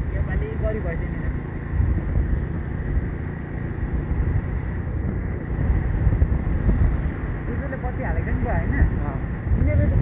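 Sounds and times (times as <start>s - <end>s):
tyres on road: 0.0s - 10.0s
vehicle engine rumble: 0.0s - 10.0s
wind buffeting microphone: 0.0s - 10.0s.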